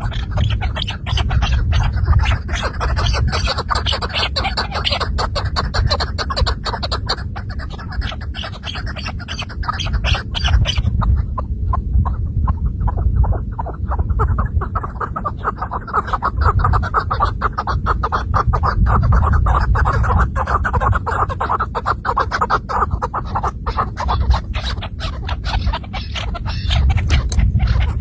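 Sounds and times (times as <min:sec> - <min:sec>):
low rumble: 0:00.0 - 0:28.0
partridge clucking calls: 0:00.0 - 0:28.0.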